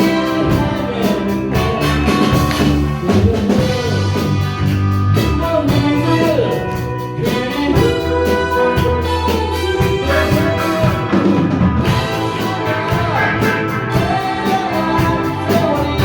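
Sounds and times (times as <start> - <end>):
live band playing pop-rock: 0.0 - 16.0.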